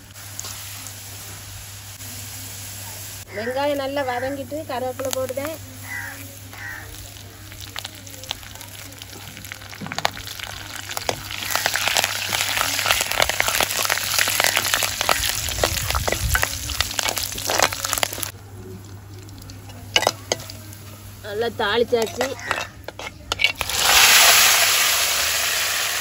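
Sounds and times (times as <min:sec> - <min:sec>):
hot oil sizzling and crackling: 0:00.0 - 0:26.0.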